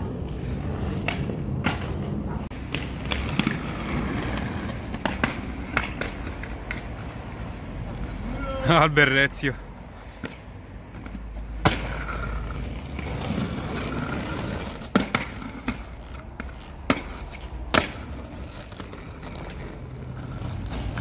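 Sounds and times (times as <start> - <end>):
skates clacking on concrete ledge: 0.0 - 8.6, 10.0 - 21.0
skate wheels rolling on pavement: 0.0 - 21.0.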